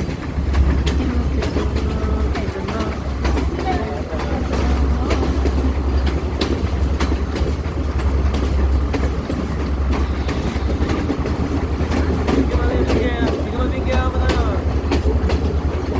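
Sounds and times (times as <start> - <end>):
train rumbling on rails: 0.0 - 15.9
wheels clicking over track: 0.0 - 15.9.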